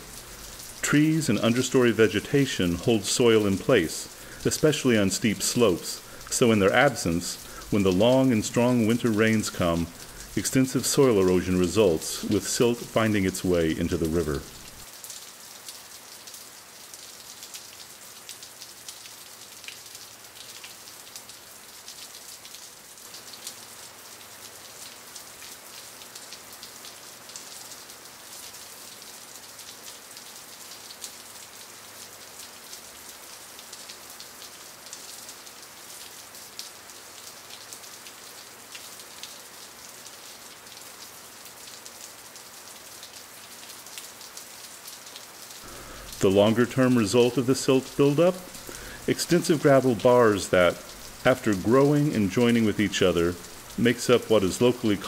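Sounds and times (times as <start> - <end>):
water patter and hiss: 0.0 - 55.0.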